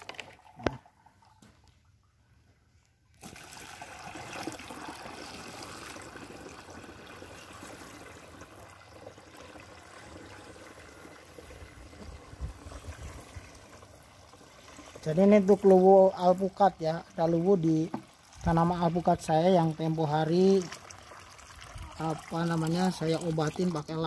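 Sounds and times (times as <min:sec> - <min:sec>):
water pouring into plastic tank: 0:00.0 - 0:01.8, 0:03.1 - 0:24.0.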